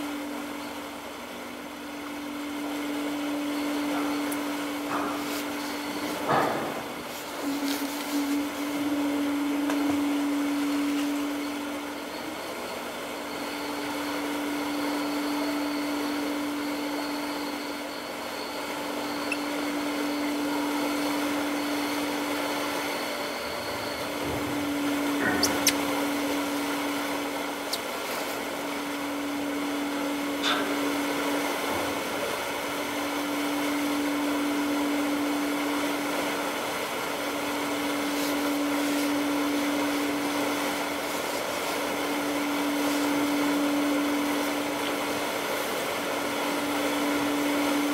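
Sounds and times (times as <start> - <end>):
ship machinery drone: 0.0 - 47.9.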